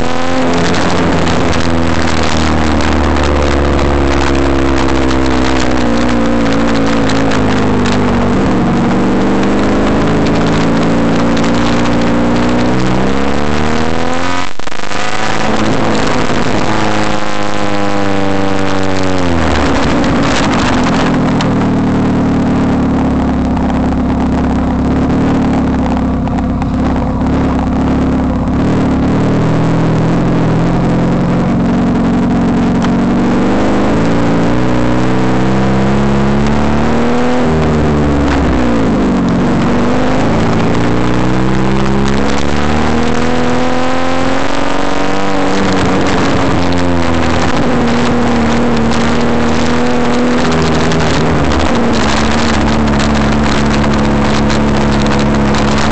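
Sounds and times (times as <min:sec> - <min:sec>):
car exhaust engine running: 0:00.0 - 0:55.9.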